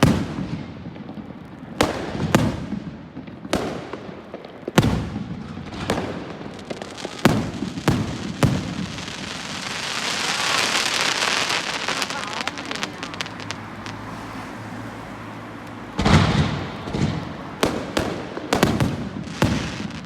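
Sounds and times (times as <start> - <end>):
dense crackling hiss: 0.0 - 20.0
fireworks bangs: 0.0 - 20.0.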